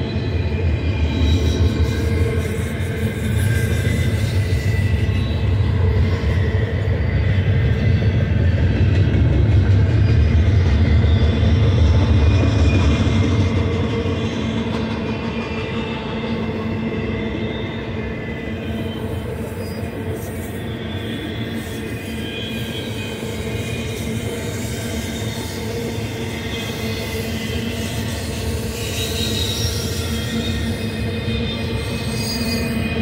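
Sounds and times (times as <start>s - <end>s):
freight train wheels rumbling on rails: 0.0s - 33.0s.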